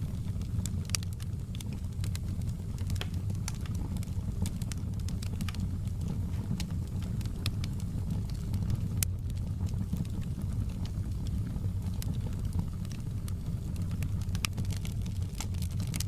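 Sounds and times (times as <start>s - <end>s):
fire flames rumbling: 0.0s - 16.0s
wood fire crackling and popping: 0.0s - 16.0s.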